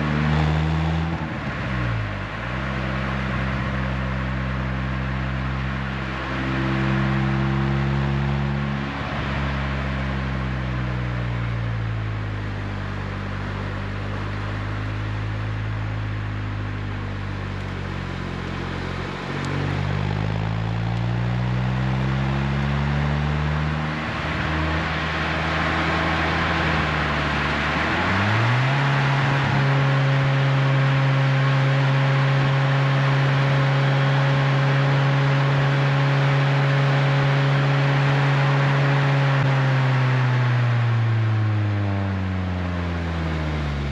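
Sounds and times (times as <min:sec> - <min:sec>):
car engine revving: 0:00.0 - 0:43.9
road and wind noise: 0:00.0 - 0:43.9.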